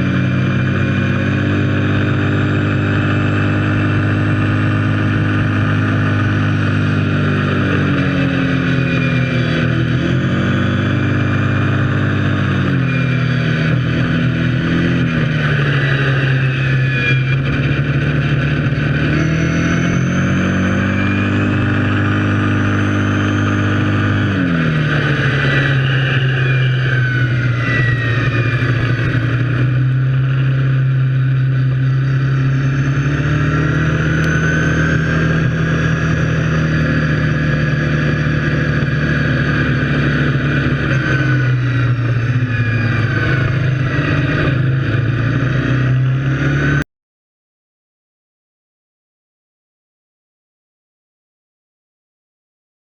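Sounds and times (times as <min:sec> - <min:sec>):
wind and road noise: 0:00.0 - 0:46.8
quad bike engine revving: 0:00.0 - 0:46.9.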